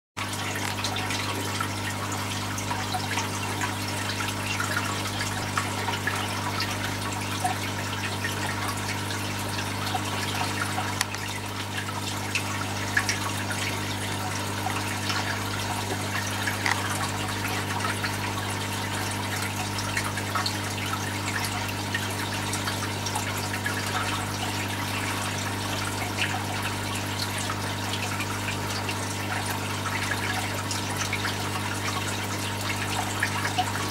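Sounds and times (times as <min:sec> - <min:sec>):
aquarium pump hum: 0:00.2 - 0:33.9
water trickling and bubbling: 0:00.2 - 0:33.9.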